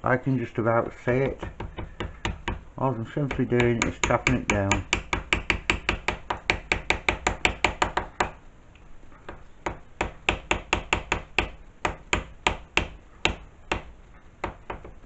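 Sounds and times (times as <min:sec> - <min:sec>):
hammer tapping steel block: 0:00.8 - 0:02.6, 0:03.2 - 0:08.4, 0:09.3 - 0:14.9.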